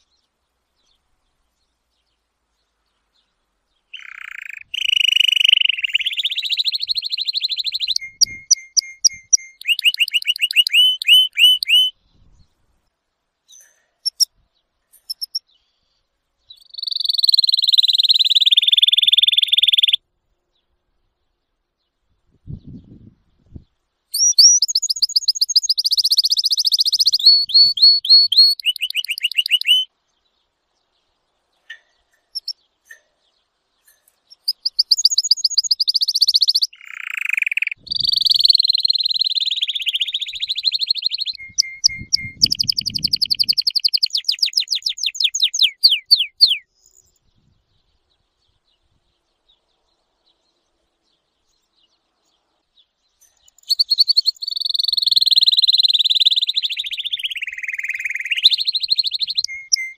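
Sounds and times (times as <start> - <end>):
canary singing trills: 3.0 - 12.6, 13.5 - 20.0, 22.5 - 30.3, 31.2 - 59.9.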